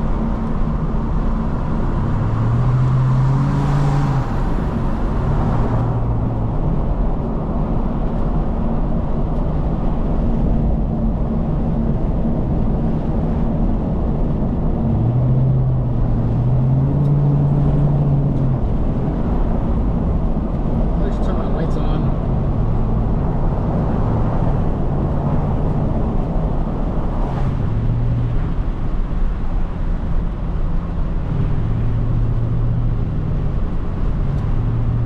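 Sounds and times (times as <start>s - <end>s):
car engine: 0.0s - 35.0s
road noise: 0.0s - 35.0s.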